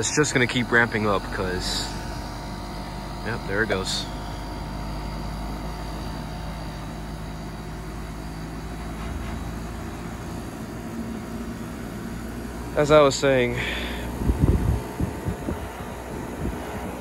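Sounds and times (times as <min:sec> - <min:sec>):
air conditioner condenser hum: 0:00.0 - 0:17.0.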